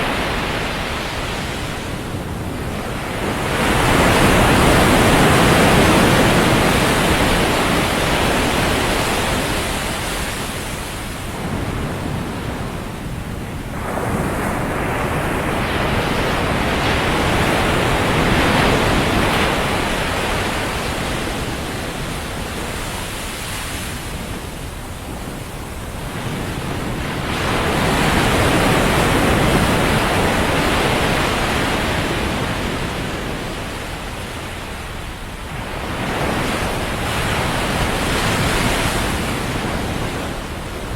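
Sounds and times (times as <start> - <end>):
surf breaking on a beach: 0.0 - 40.9
wind on microphone: 0.0 - 40.9.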